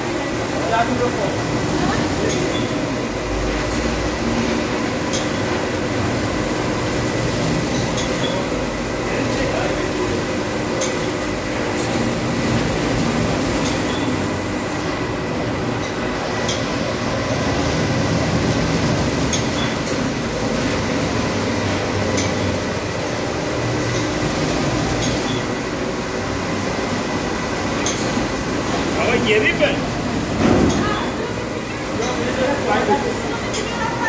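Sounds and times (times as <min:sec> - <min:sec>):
carpet washing machine droning: 0:00.0 - 0:34.0.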